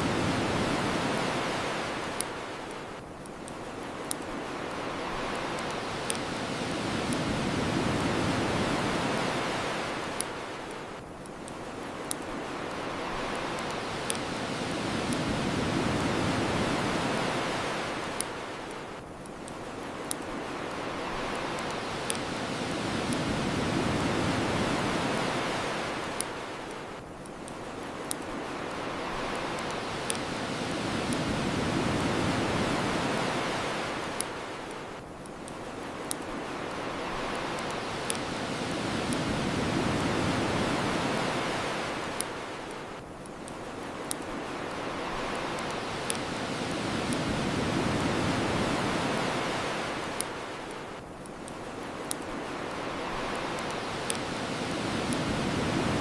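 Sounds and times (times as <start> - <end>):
ocean surf washing ashore: 0.0 - 56.0
bonfire crackling and popping: 0.1 - 56.0.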